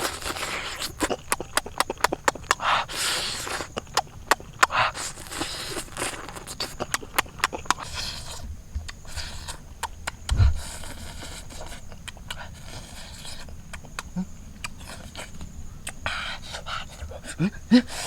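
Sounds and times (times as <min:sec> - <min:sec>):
chewing mouth clicks and smacks: 0:00.0 - 0:17.3
sniffing breaths: 0:00.0 - 0:18.0.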